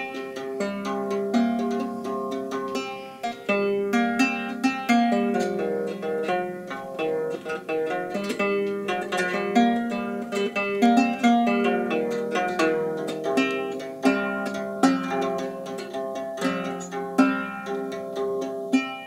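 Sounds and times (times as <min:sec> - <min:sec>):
lyre strings plucked: 0:00.0 - 0:19.0.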